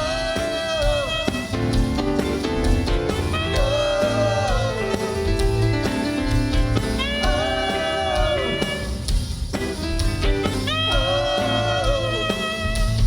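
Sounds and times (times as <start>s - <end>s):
upbeat rock instrumental: 0.0s - 13.0s.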